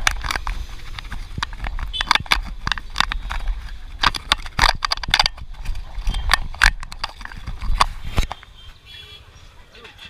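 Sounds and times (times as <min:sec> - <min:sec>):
fingers handling camera: 0:00.0 - 0:08.4.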